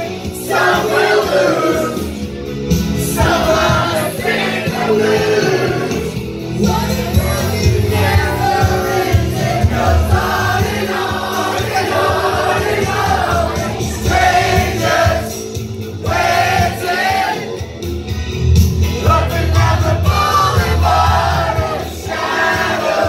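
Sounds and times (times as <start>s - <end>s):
group of voices singing: 0.0s - 17.8s, 18.8s - 23.0s.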